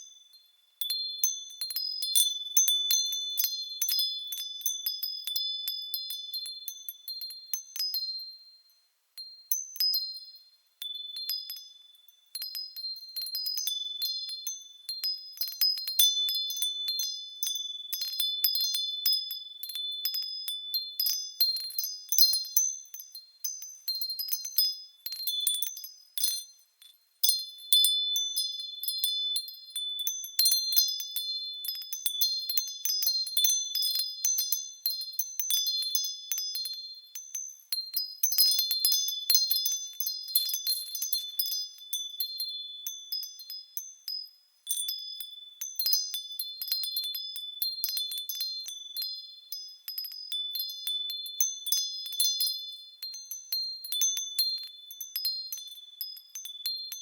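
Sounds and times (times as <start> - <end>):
wind bells tinkling: 10.8 - 57.0.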